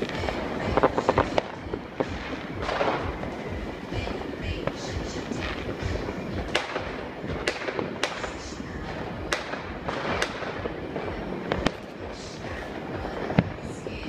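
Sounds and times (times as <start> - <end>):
distant fireworks din: 0.0 - 14.0
firecracker sharp bangs: 0.0 - 14.0.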